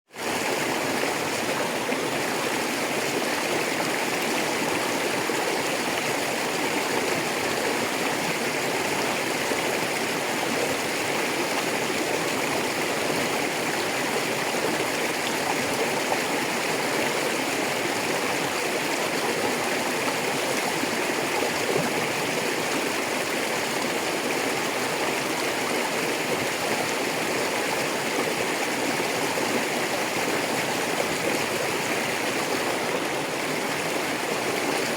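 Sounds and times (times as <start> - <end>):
river rushing over stones: 0.2 - 34.9.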